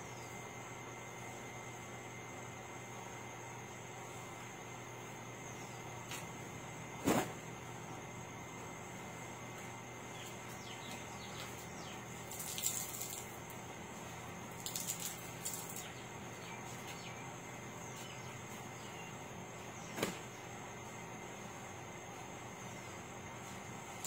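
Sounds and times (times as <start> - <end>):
high insect hum: 0.0 - 24.0.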